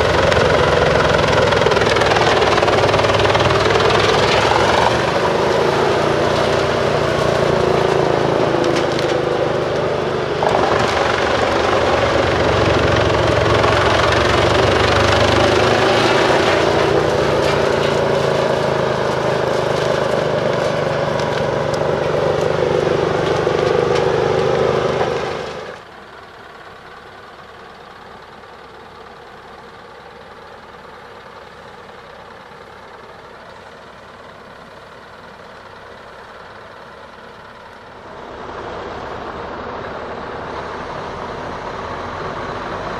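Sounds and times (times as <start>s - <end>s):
engine idling: 0.0s - 42.9s
wood chipper chipping: 0.0s - 42.9s.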